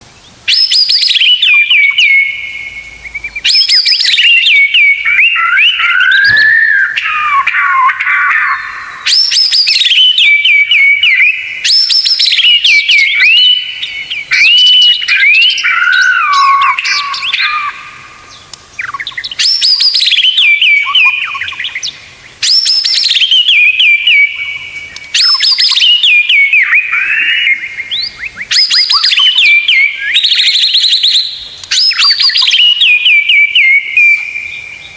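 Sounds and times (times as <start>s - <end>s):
bird singing whistles and trills: 0.2s - 34.9s.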